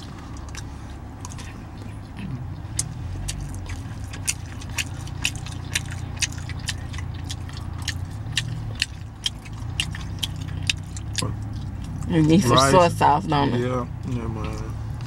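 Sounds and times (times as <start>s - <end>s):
person chewing food: 0.0s - 12.6s
steady low hum: 0.0s - 15.0s.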